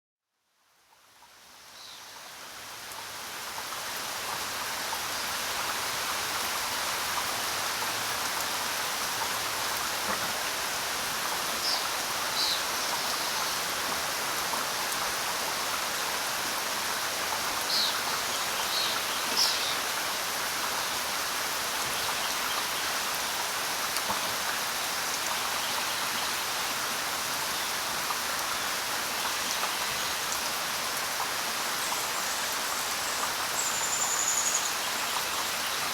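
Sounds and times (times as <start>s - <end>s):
heavy rain falling: 2.6s - 35.9s.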